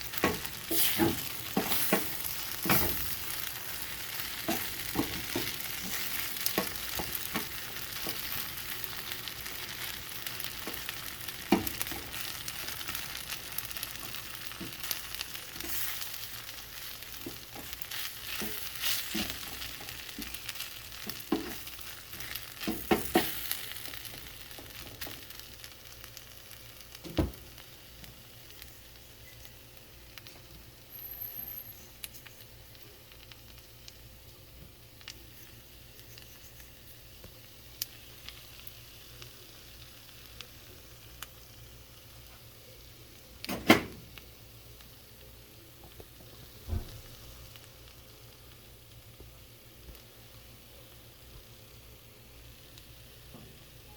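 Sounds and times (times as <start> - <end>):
food sizzling in frying pan: 0.0 - 53.9.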